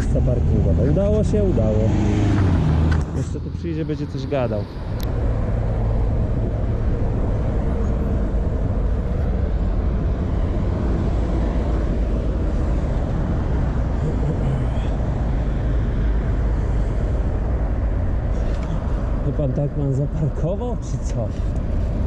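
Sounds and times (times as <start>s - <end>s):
traffic on busy road: 0.0s - 22.0s.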